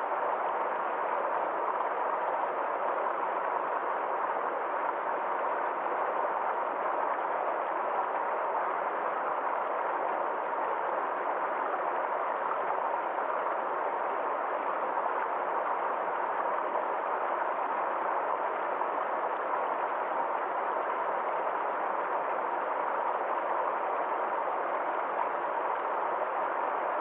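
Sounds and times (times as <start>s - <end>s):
forest stream flowing: 0.0s - 27.0s.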